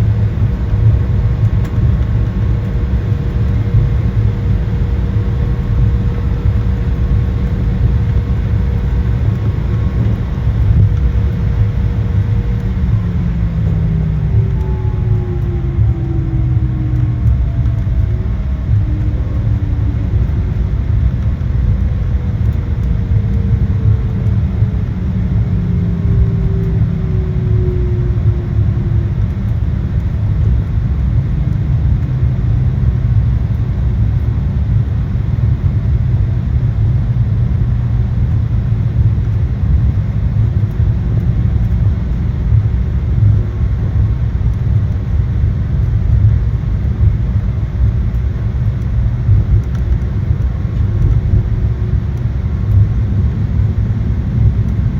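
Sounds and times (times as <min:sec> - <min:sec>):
low rumble of jet engines: 0:00.0 - 0:54.9
whine falling in pitch: 0:00.0 - 0:54.9.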